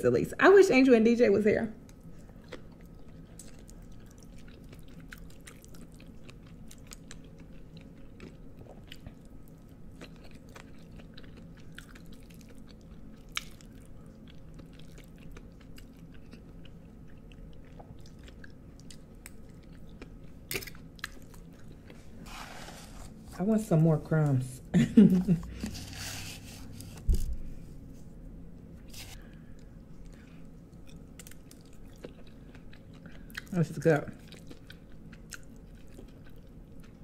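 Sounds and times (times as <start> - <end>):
close-miked chewing with crunches: 1.8 - 23.4, 28.9 - 37.0.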